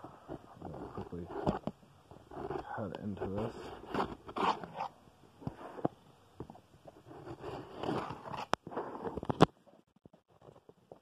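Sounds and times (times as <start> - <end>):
cardboard scraping and rustling: 0.2 - 5.8, 7.0 - 11.0.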